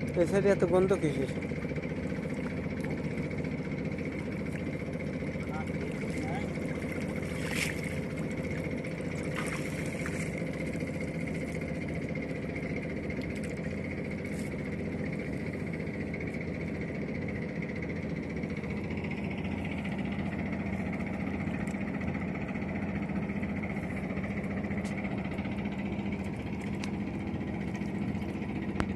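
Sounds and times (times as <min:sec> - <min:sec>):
boat engine humming: 0:00.0 - 0:28.9.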